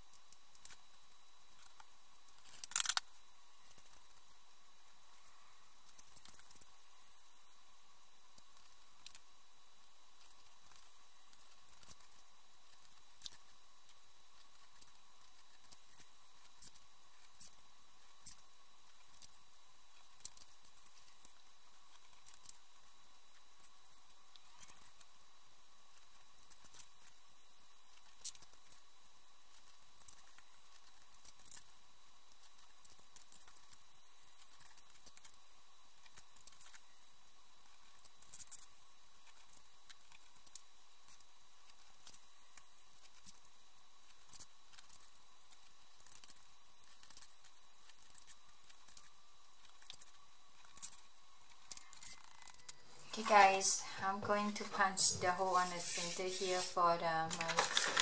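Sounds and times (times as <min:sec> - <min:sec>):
small discs clicking on cardboard: 0:00.1 - 0:04.3, 0:10.2 - 0:52.8, 0:57.3 - 0:58.0.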